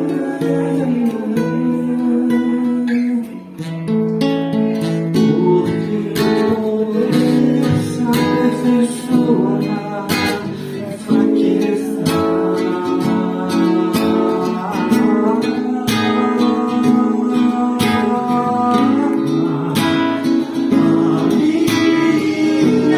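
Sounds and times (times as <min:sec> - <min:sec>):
acoustic guitar strummed and plucked: 0:00.0 - 0:22.9.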